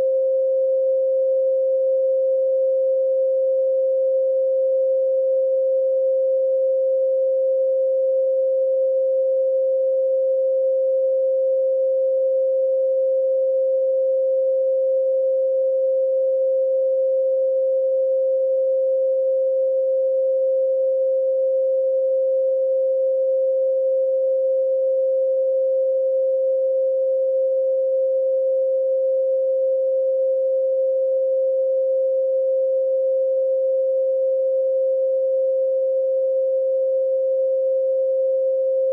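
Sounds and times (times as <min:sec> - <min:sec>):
sine tone: 0:00.0 - 0:38.9.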